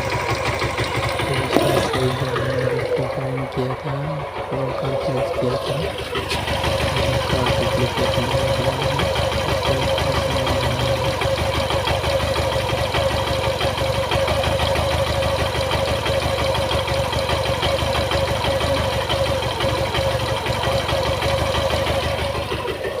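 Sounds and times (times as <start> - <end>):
engine whine: 0.0 - 23.0
motorcycle engine idling: 0.0 - 23.0.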